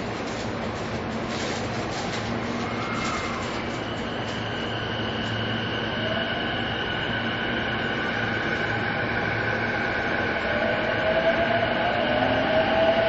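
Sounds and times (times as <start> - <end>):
humming motor whine: 0.0 - 13.0
train running noise in tunnel: 0.0 - 13.0.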